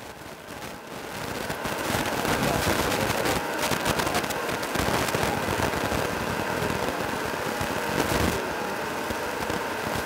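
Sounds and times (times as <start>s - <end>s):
street sweeper engine running: 0.0s - 10.0s.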